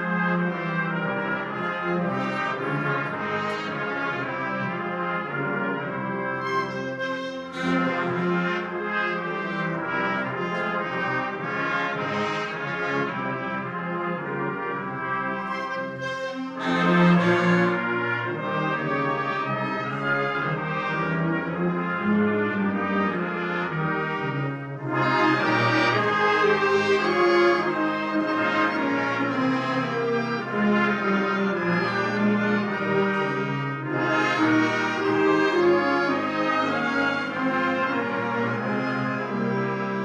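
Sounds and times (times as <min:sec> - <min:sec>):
brass: 0:00.0 - 0:40.0
wind band playing: 0:00.0 - 0:40.0.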